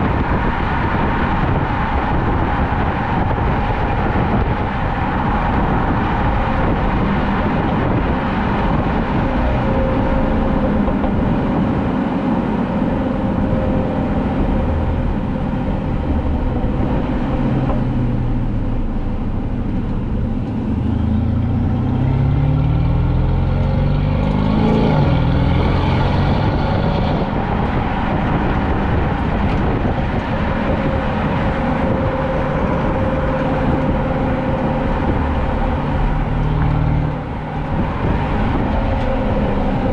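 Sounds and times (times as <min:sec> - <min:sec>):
car engine and exhaust while driving: 0:00.0 - 0:39.9.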